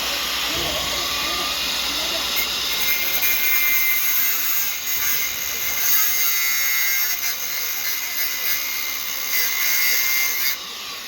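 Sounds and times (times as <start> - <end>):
angle grinder cutting concrete: 0.0 - 11.0.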